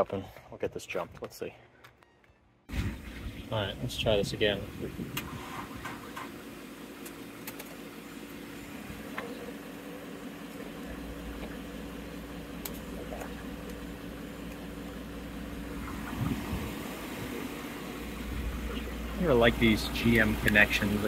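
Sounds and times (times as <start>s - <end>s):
vehicle engine idling: 2.7s - 21.0s.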